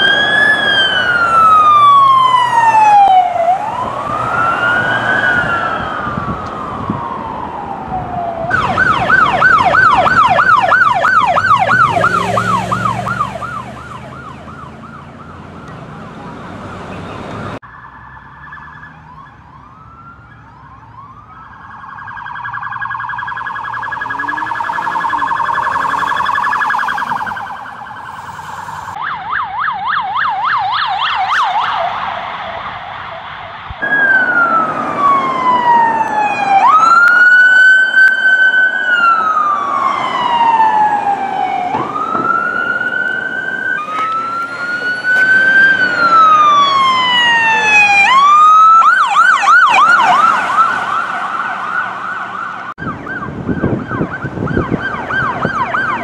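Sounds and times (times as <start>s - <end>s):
police siren wailing and yelping: 0.0s - 56.0s.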